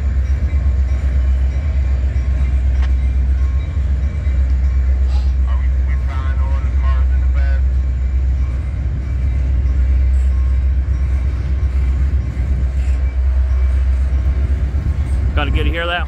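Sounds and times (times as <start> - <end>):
freight train rolling past: 0.0 - 16.0.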